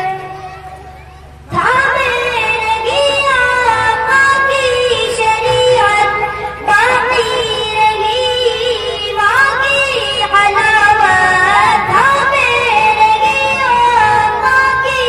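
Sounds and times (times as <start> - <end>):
boy singing into a microphone: 0.0 - 0.8, 1.5 - 15.0.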